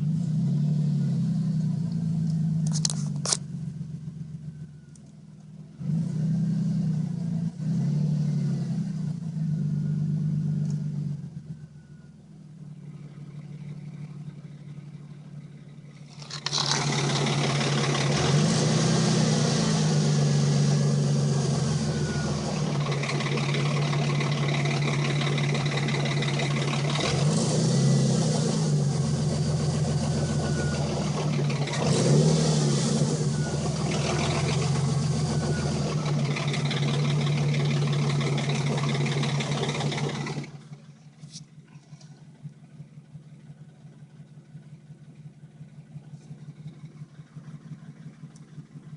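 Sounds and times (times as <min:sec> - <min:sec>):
car engine running: 0:00.0 - 0:48.9
engine throttle blips: 0:00.0 - 0:48.9.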